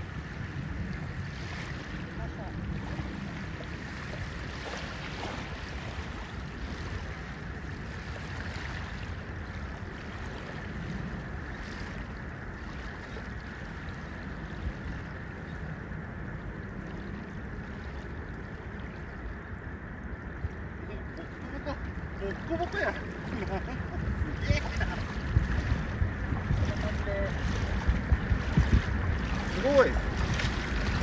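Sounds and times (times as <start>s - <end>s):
small waves lapping: 0.0s - 31.0s
wind rumbling on microphone: 0.0s - 31.0s.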